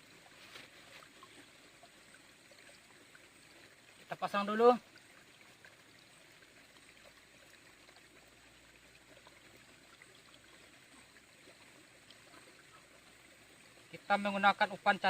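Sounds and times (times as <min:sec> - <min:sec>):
stream running water: 0:00.0 - 0:15.0.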